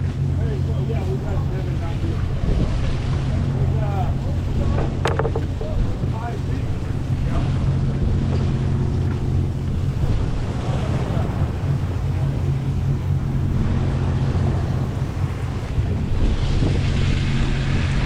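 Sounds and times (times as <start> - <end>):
boat machinery drone: 0.0 - 18.0
water washing along hull: 0.0 - 18.0
wind buffeting microphone: 0.0 - 18.0.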